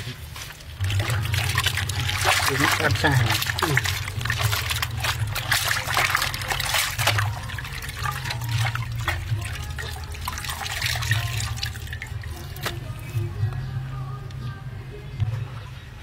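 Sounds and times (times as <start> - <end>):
water splashing and sloshing: 0.0 - 13.6.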